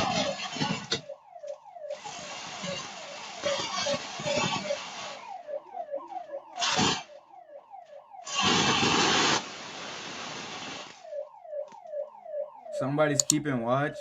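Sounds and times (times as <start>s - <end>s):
burglar alarm siren sweeping: 0.0s - 14.0s.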